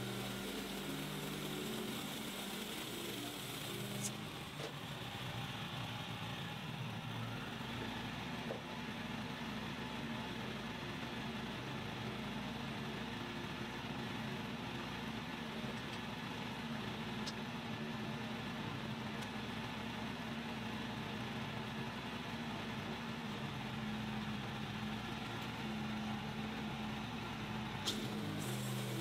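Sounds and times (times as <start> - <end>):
gas engine idling: 0.0 - 29.0.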